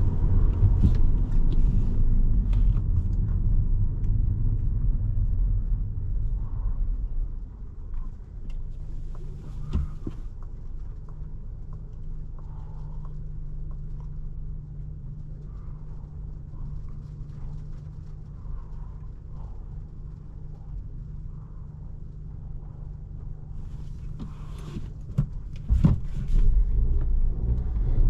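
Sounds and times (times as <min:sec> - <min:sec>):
road and engine rumble: 0:00.0 - 0:28.0.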